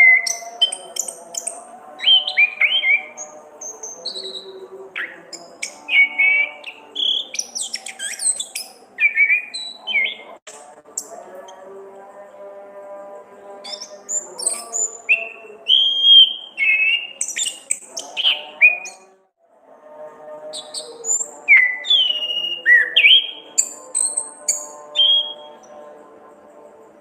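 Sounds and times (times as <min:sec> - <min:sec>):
thrush singing: 0:00.0 - 0:27.0.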